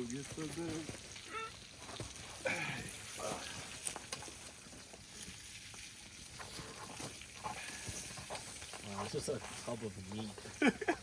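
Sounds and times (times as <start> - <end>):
stew cooking in a pot: 0.0 - 11.0.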